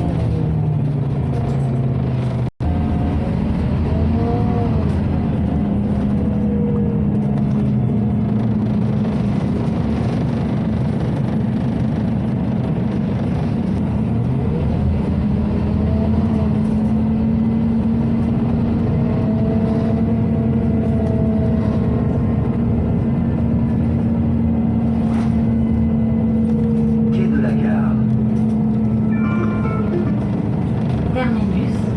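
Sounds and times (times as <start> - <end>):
bus engine rumble: 0.0 - 31.9.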